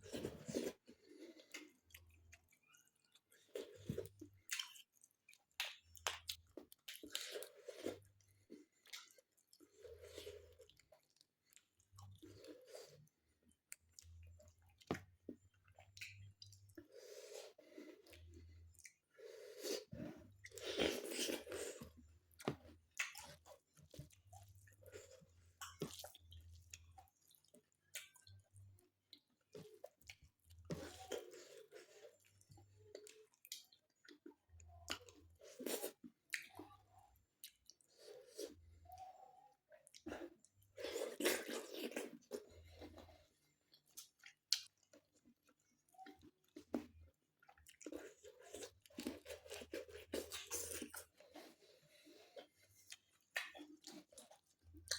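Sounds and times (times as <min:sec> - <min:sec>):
person chewing and eating: 0:00.0 - 0:54.9.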